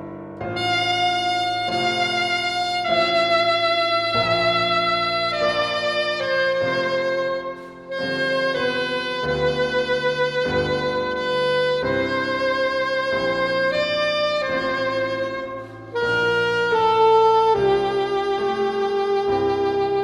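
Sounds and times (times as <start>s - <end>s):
piano accompaniment: 0.0s - 20.0s
saxophone melody: 0.4s - 20.0s.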